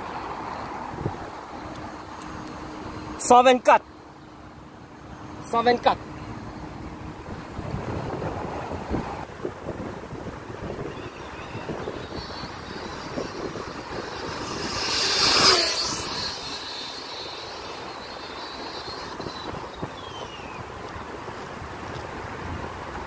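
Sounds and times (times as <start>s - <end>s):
rc car motor whine passing: 0.0s - 20.9s.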